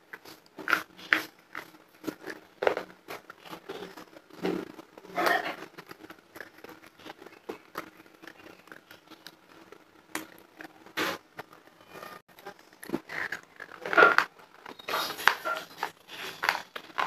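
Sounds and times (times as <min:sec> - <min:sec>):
crunchy chewing: 0:00.1 - 0:11.6, 0:12.4 - 0:17.0.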